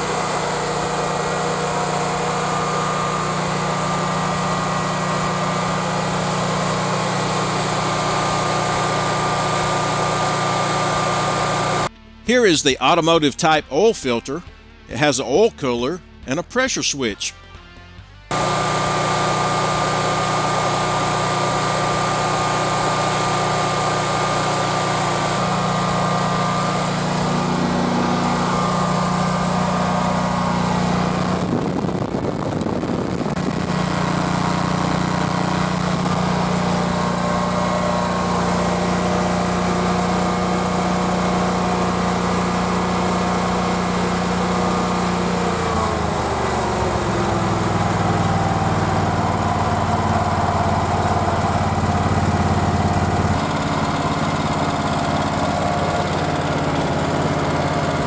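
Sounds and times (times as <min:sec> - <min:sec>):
generator engine running: 0:00.0 - 0:17.2, 0:18.3 - 0:58.0.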